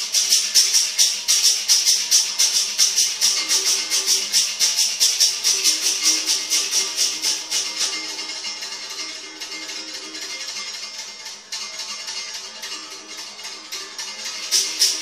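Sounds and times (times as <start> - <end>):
shaker rattle: 0.0 - 15.0.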